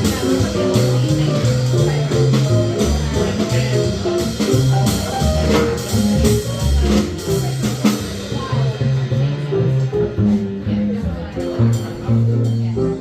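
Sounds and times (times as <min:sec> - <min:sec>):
bass line: 0:00.0 - 0:13.0.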